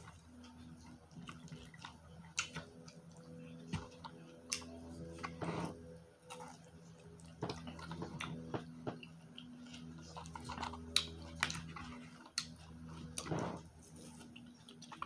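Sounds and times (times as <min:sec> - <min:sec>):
steady low hum: 0:00.0 - 0:15.0
wet chewing: 0:00.0 - 0:15.0.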